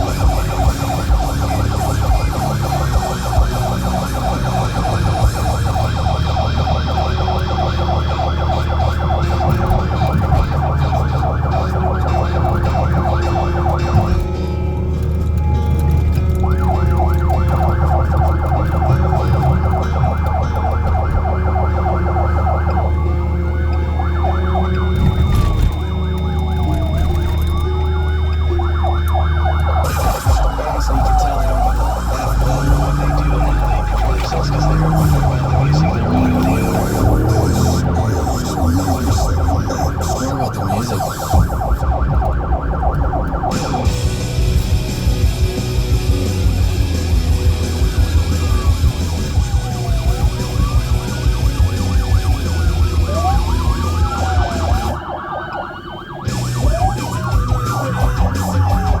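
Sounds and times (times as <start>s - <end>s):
moving car drone: 0.0s - 59.0s
police siren yelp and wail: 0.0s - 59.0s.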